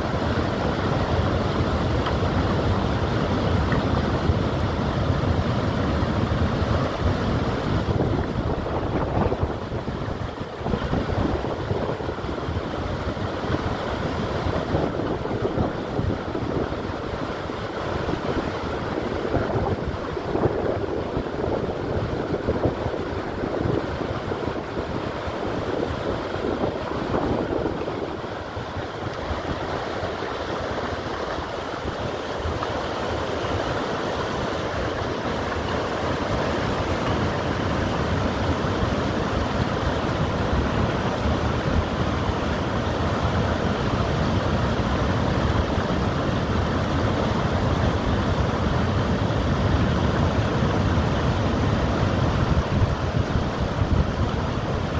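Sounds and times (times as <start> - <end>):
water rushing over weir: 0.0 - 54.9.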